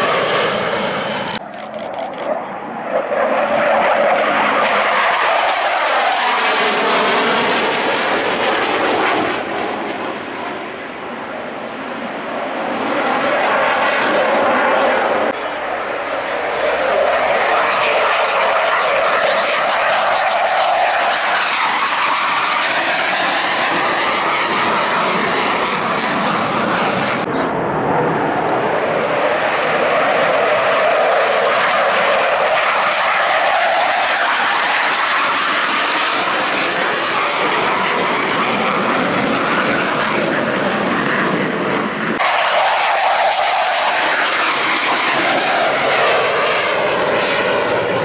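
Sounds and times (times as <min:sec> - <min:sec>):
fighter jets flying past: 0:00.0 - 0:48.0.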